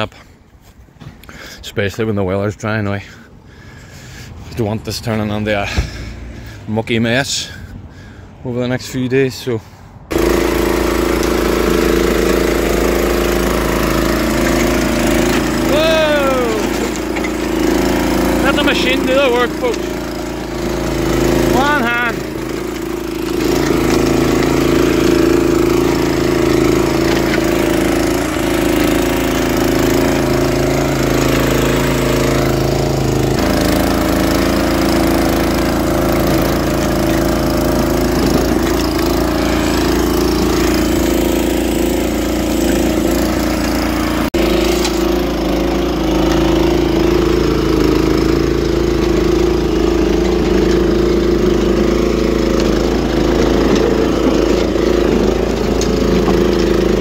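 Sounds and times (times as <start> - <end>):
petrol engine running under load: 9.6 - 57.0
tines churning stony soil: 10.1 - 57.0.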